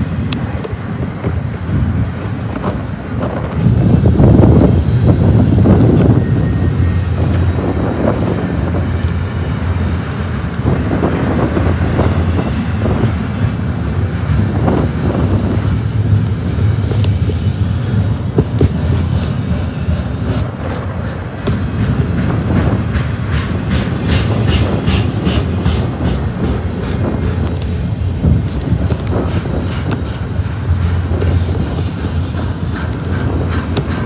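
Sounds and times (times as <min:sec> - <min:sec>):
freight train wheels rumbling: 0:00.0 - 0:34.0
train clanks: 0:00.0 - 0:34.0.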